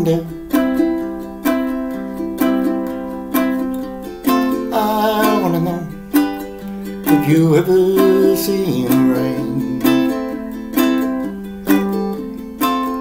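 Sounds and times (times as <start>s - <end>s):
ukulele strummed chords: 0.0s - 13.0s.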